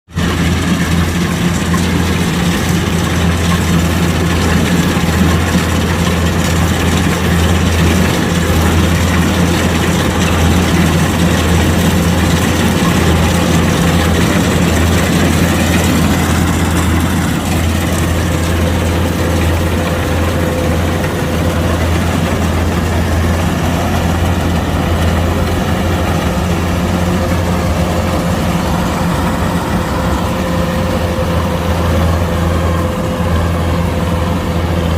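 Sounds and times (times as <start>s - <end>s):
diesel engine droning: 0.1s - 34.9s.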